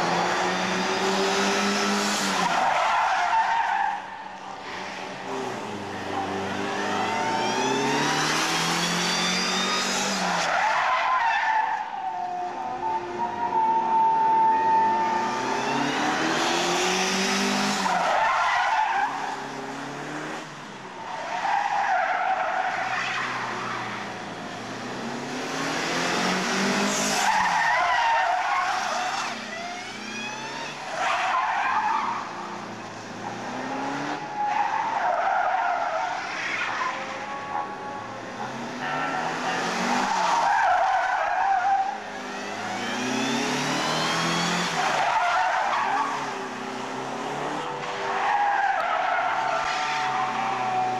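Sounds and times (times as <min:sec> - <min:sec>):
car engines revving hard: 0:00.0 - 0:12.1, 0:12.7 - 0:50.9.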